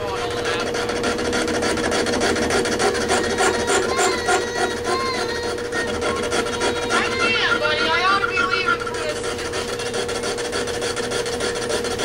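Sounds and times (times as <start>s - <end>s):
cutting tool rasping chatter: 0.0s - 12.0s
metal lathe whine: 0.0s - 12.0s
high squeals: 0.8s - 10.5s.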